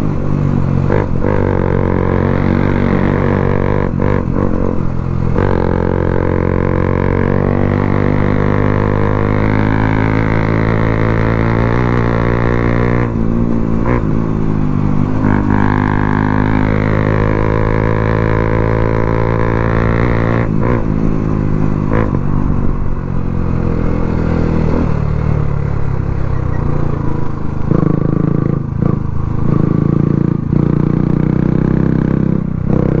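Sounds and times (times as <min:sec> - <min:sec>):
motorcycle engine droning: 0:00.0 - 0:33.0.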